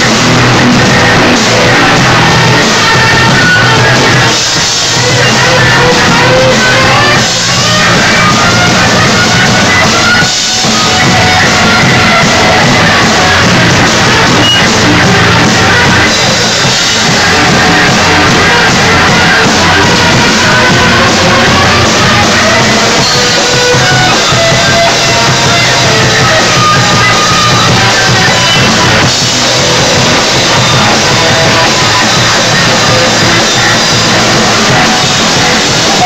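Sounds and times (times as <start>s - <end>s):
drum kit: 0.0s - 36.0s
electric guitar: 0.0s - 36.0s
shouted vocals: 0.0s - 36.0s.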